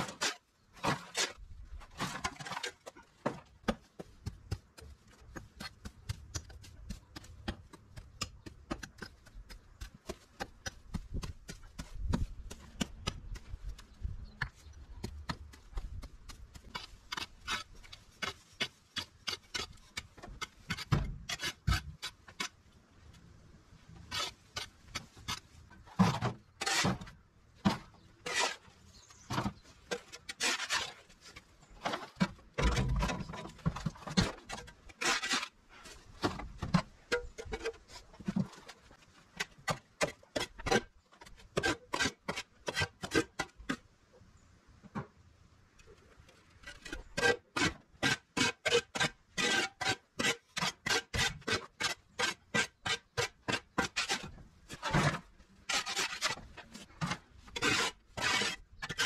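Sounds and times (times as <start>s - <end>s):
shovel scraping soil: 0.0s - 22.6s, 24.0s - 43.8s, 46.6s - 59.0s.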